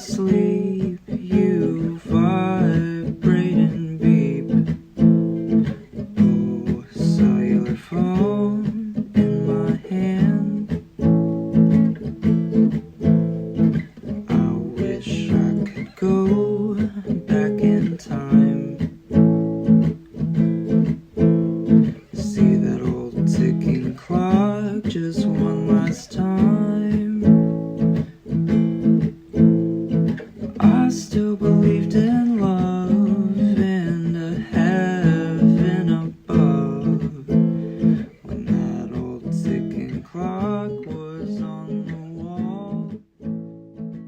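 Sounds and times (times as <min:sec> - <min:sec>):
acoustic guitar strummed and picked: 0:00.0 - 0:44.0.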